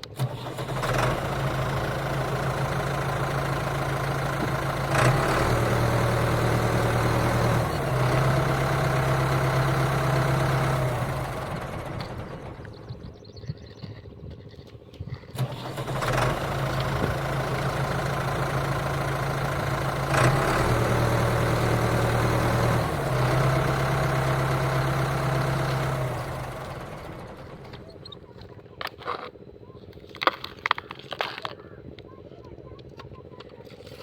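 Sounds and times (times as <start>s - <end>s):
tractor engine droning: 0.0s - 13.7s, 15.3s - 34.0s.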